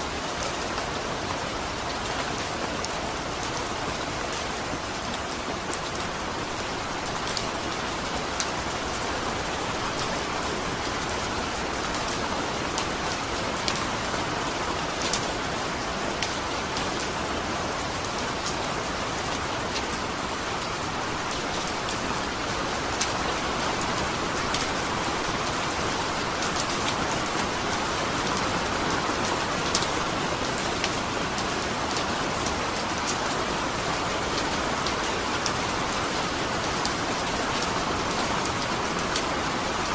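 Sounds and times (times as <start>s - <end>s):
raindrops ticking on a surface: 0.2s - 17.2s, 17.8s - 39.9s.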